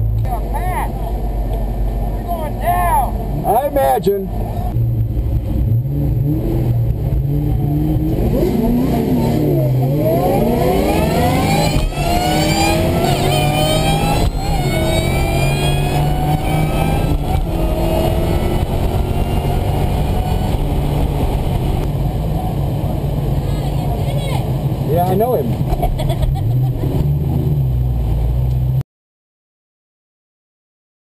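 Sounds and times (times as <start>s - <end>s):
car engine accelerating: 0.0s - 28.8s.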